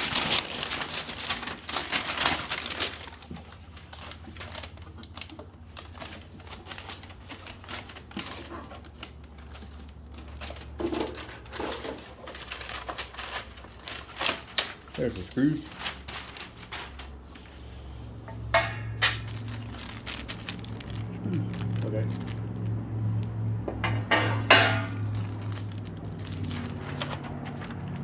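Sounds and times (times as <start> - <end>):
packaging rustling and crinkling: 0.0 - 28.0.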